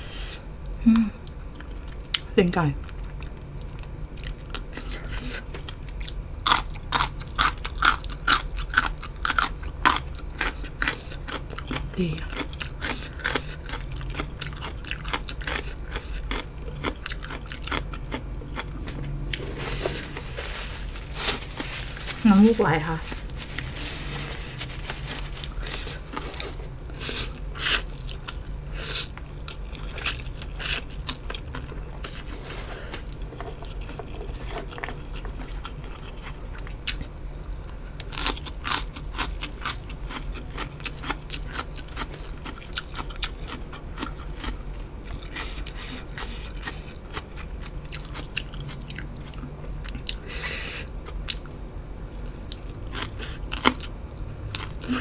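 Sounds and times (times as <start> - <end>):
crisp crunching bites and chewing: 4.1 - 37.1, 38.0 - 50.3.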